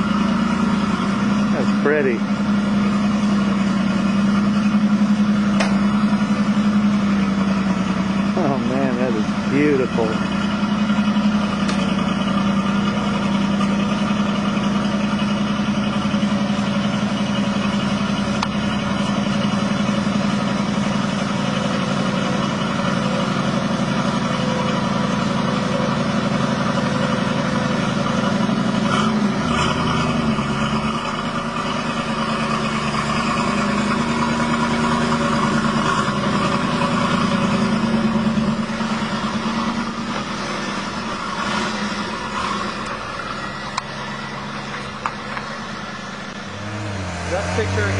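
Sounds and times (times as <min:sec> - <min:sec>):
car engine idling through exhaust: 0:00.0 - 0:47.9.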